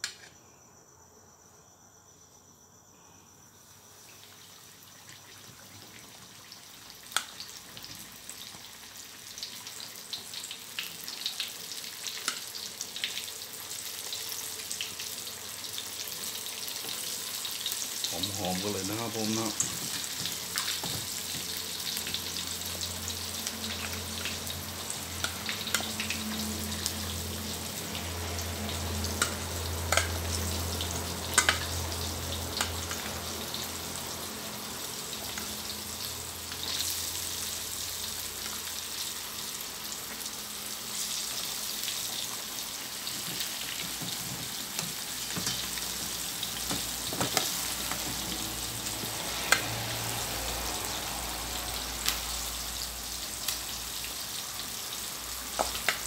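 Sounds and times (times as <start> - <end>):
chicken deep-frying in oil: 3.6 - 56.0.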